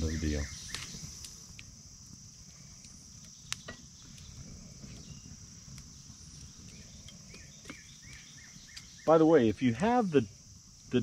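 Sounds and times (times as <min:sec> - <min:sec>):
campfire crackling: 0:00.0 - 0:11.0
insect chorus: 0:00.0 - 0:11.0.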